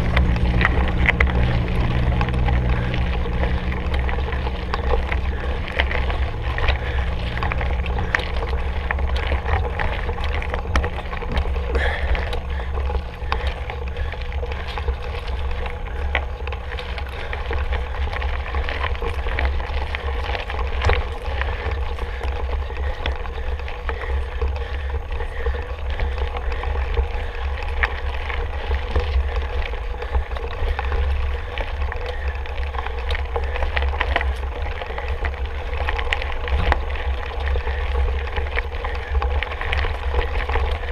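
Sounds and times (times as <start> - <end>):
bike clicking and rattling: 0.0 - 40.9
bike tyres on rough ground: 0.0 - 40.9.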